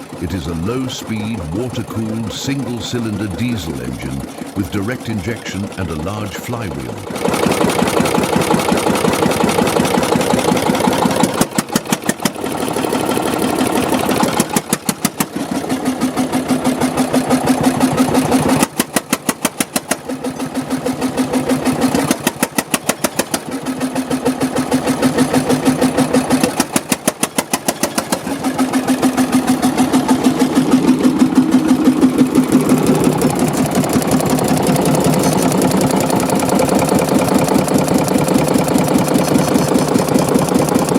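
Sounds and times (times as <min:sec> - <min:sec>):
stationary diesel engine knocking: 0:00.0 - 0:40.9.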